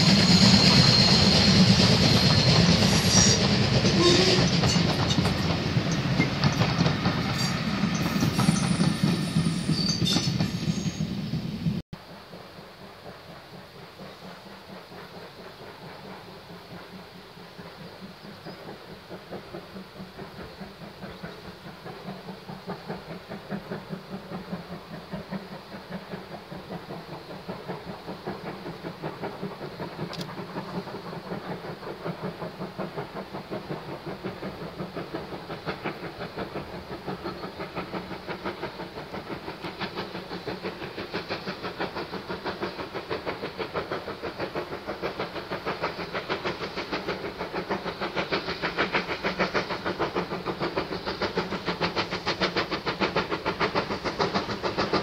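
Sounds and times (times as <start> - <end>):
steam locomotive chuffing: 0.0 - 55.0.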